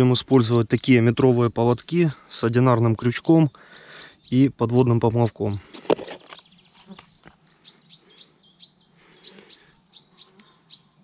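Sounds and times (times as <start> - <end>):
small songbird chirping: 0.0 - 11.0.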